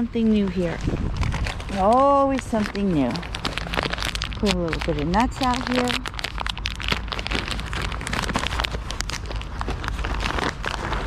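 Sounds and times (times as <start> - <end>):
bag rustling and crackling: 0.0 - 11.0
steady low rumble: 0.0 - 11.0.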